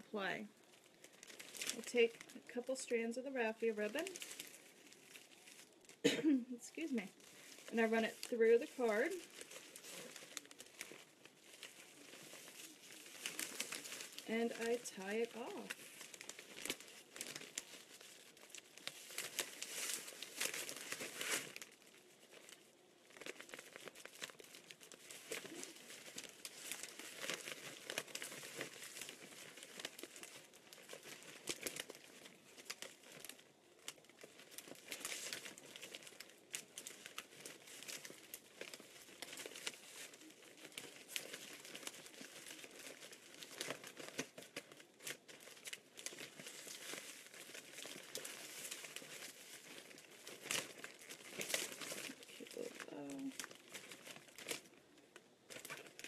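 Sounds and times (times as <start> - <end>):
cellophane bag crinkling: 0.0 - 56.0.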